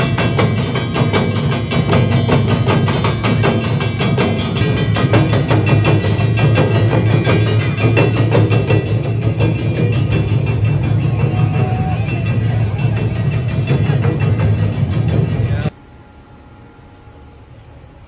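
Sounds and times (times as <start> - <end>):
hand gongs clanging: 0.0 - 15.7
taiko drums: 0.0 - 15.7.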